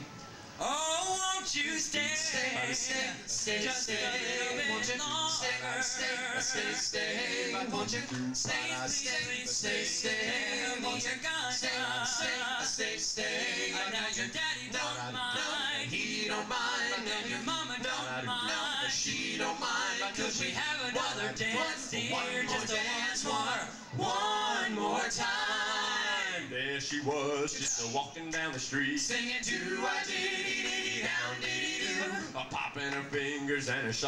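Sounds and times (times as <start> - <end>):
male vocal group singing in harmony: 0.6 - 34.0.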